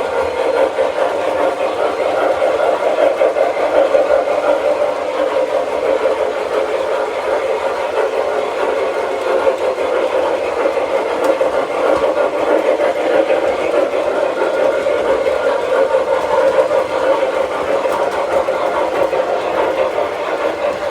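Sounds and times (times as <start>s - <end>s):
model train rolling on track: 0.0s - 20.9s.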